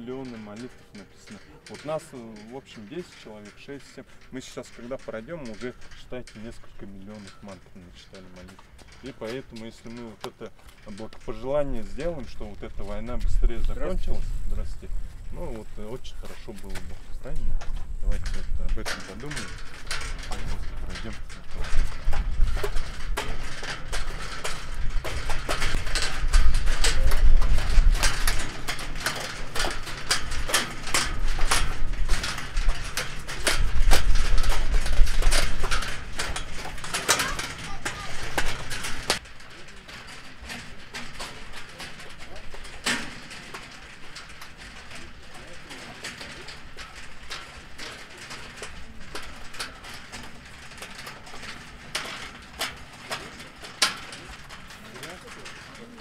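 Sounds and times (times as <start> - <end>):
metal prayer wheels knocking: 0.0 - 56.0.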